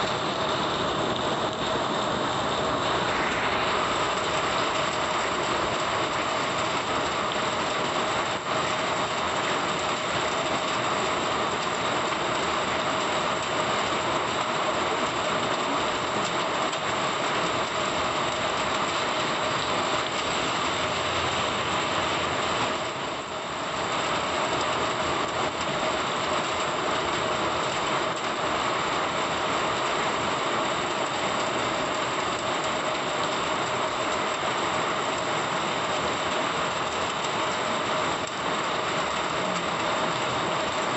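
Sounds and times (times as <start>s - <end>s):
heavy rain on a road: 0.0s - 40.9s.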